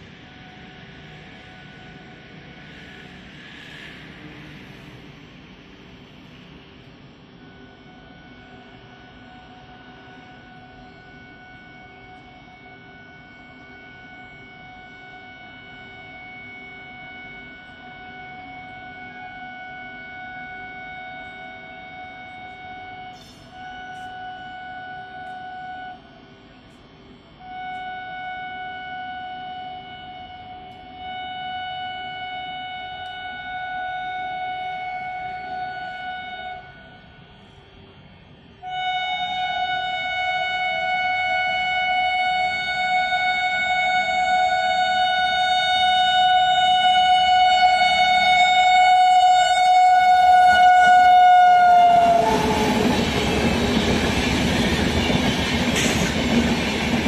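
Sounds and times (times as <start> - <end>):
locomotive horn blasts: 7.4 - 26.5, 27.4 - 37.5, 38.5 - 57.0.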